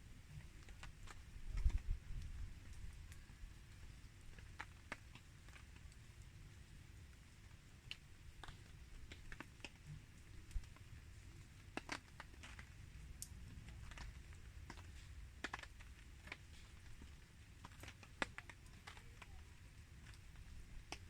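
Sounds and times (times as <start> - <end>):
campfire crackling: 0.2 - 21.0.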